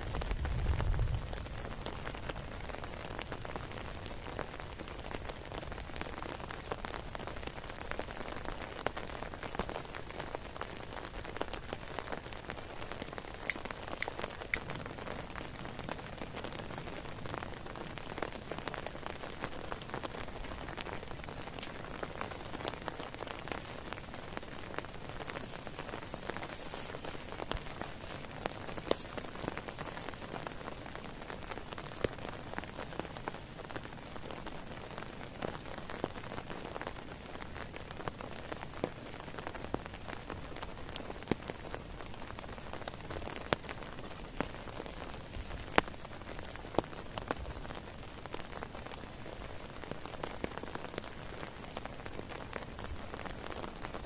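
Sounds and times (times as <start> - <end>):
steady rain: 0.0 - 54.0
drops ticking on surfaces: 0.1 - 54.0.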